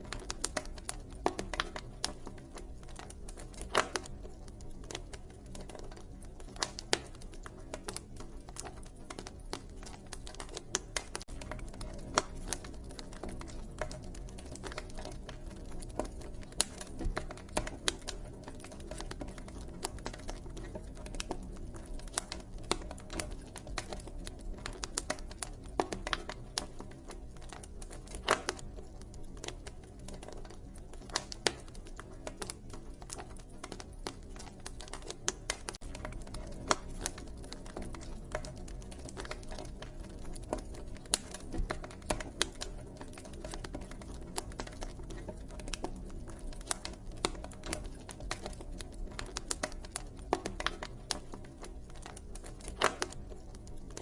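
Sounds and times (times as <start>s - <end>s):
low steady background hush: 0.0s - 54.0s
wood fire crackling: 0.0s - 54.0s.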